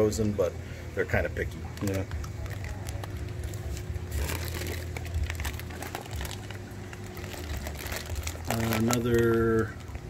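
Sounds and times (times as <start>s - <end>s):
steady low hum: 0.0s - 10.0s
plastic bags crinkling: 1.7s - 10.0s.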